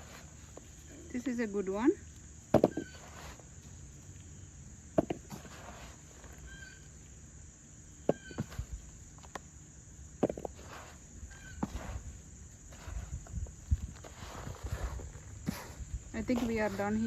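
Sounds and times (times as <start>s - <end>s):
soil scraping and knocks: 0.0s - 7.2s, 7.8s - 17.0s
high insect chirring: 0.0s - 17.0s.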